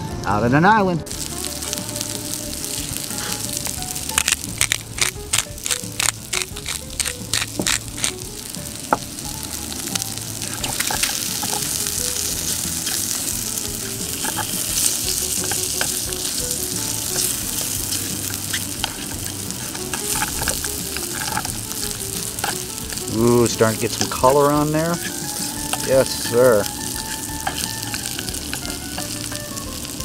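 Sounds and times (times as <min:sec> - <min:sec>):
meat sizzling in a pan: 0:01.1 - 0:30.0.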